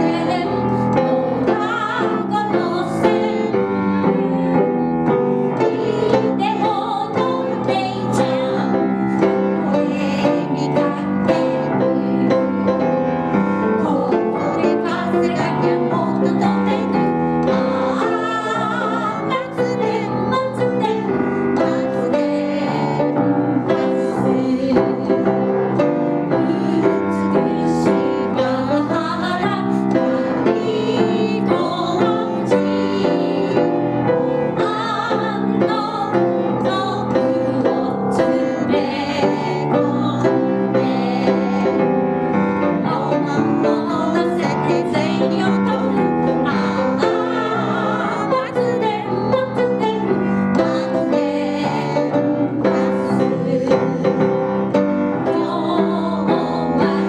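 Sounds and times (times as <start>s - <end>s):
piano accompaniment: 0.0s - 57.0s.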